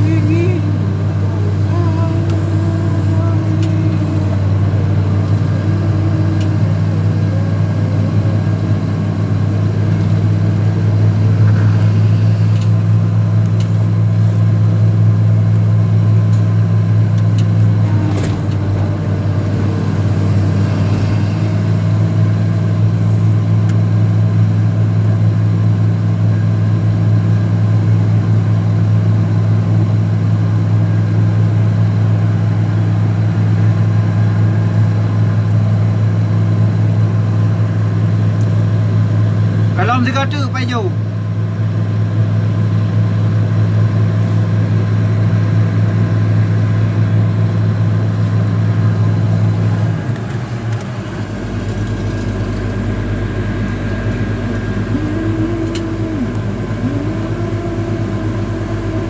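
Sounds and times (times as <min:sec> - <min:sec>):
excavator engine droning: 0:00.0 - 0:59.0.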